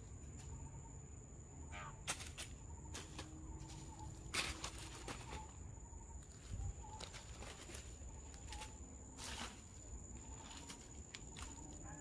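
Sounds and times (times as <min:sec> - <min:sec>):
dry leaves rustling and crackling: 0:02.1 - 0:11.9.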